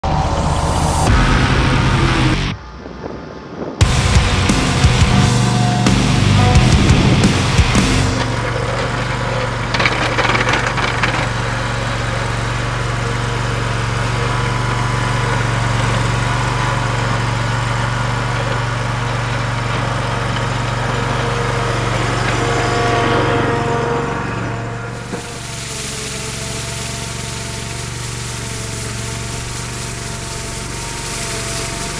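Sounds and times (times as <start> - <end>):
vehicle engine running: 0.0 - 31.9
plow blade pushing snow: 3.8 - 31.9.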